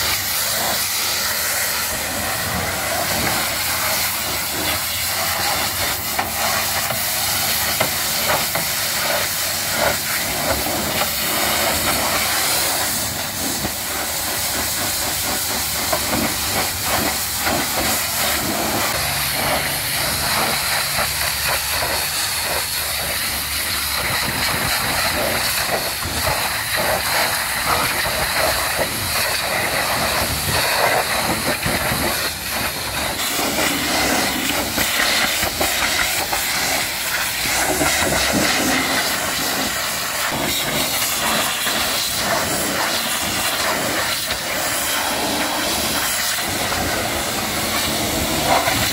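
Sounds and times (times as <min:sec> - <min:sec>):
pressure washer spraying water: 0:00.0 - 0:48.9.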